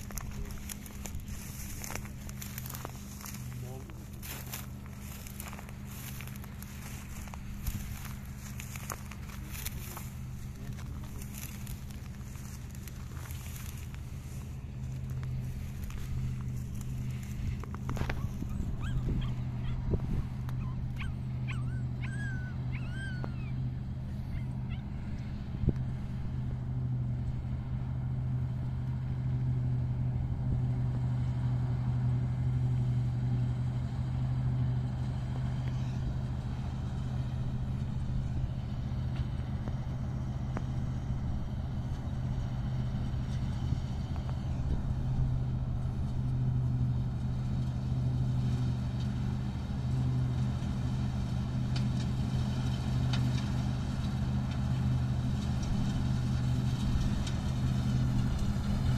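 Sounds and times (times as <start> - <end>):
combine harvester engine hum: 0.0 - 58.9.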